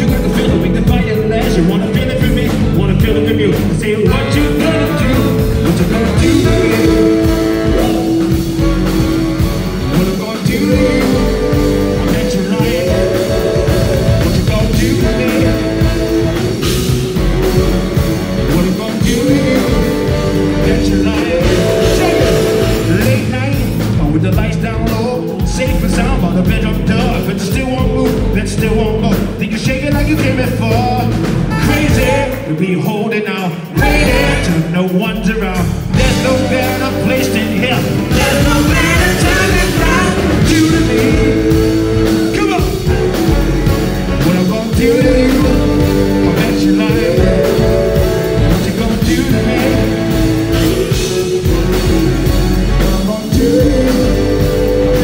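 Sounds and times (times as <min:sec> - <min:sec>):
saxophone: 0:00.0 - 0:32.6, 0:33.8 - 0:34.7, 0:35.8 - 0:55.0
live funk rock band: 0:00.0 - 0:55.0
man singing: 0:00.0 - 0:55.0.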